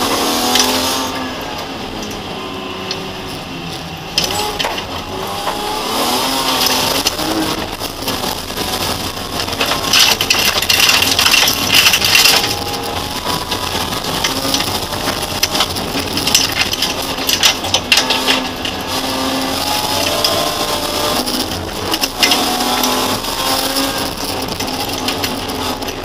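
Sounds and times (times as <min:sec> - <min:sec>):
racing engine accelerating: 0:00.0 - 0:26.0
gravel clattering against underbody: 0:04.2 - 0:26.0.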